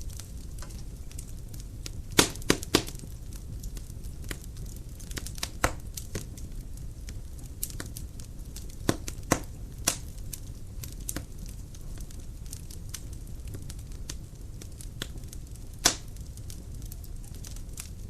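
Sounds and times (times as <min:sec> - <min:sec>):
firewood burning in fireplace: 0:00.0 - 0:18.0
wood crackling and popping: 0:00.0 - 0:18.0.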